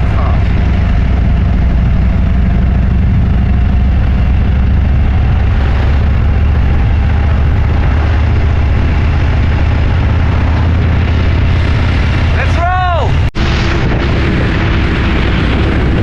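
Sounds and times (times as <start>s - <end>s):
motorcycle engine running: 0.0s - 12.5s, 13.1s - 16.0s
wind noise: 0.0s - 16.0s.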